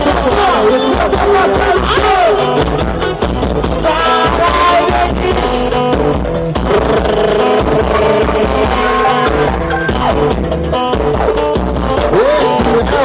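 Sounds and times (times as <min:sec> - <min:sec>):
live band music: 0:00.0 - 0:13.0
plucked guitar line: 0:00.0 - 0:13.0.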